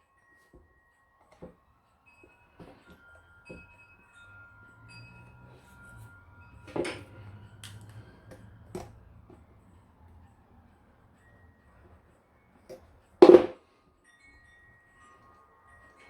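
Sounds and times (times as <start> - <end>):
metallic ringing: 2.1 - 16.0.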